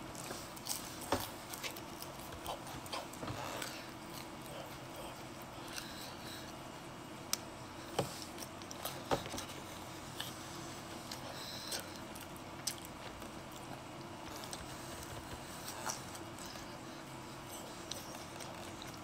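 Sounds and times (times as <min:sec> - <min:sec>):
chewing pizza: 0:00.0 - 0:19.0
low room hum: 0:00.0 - 0:19.0.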